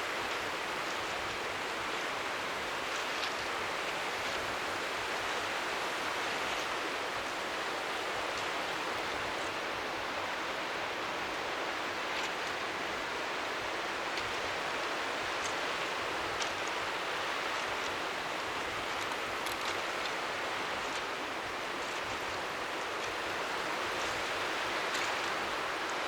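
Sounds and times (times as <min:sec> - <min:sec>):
waves lapping faintly: 0:00.0 - 0:26.0.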